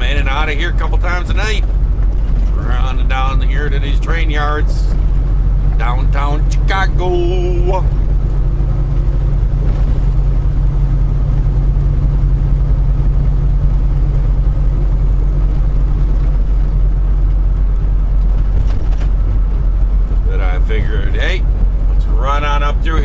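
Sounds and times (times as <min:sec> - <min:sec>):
road noise: 0:00.0 - 0:23.0
truck diesel engine drone: 0:00.0 - 0:23.0.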